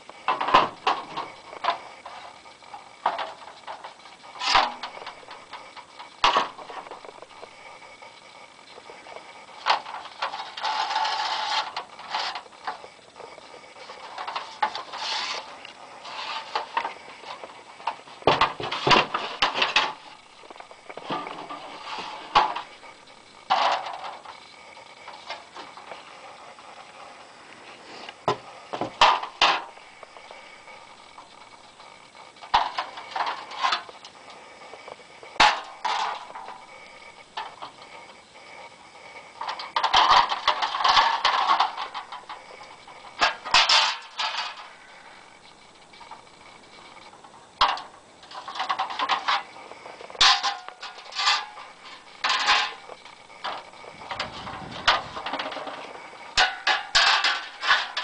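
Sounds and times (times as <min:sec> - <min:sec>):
metal signs clanking and scraping: 0:00.0 - 0:58.0.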